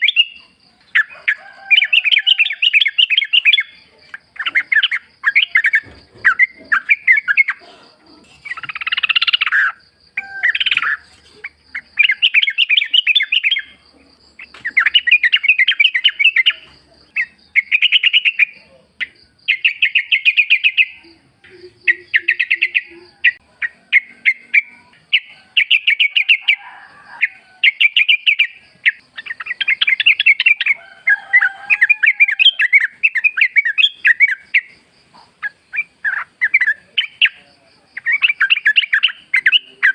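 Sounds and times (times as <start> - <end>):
bulbuls singing: 0.0 - 39.9.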